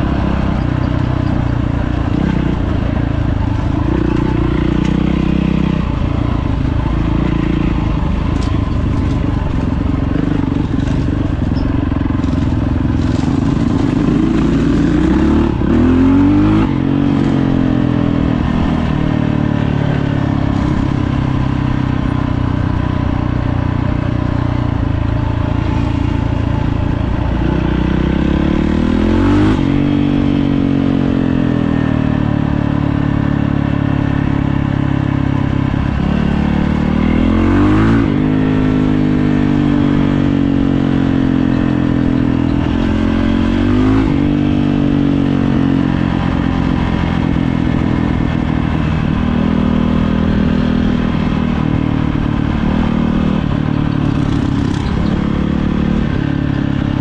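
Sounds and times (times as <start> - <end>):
dirt bike engine revving: 0.0 - 34.8, 35.4 - 57.0.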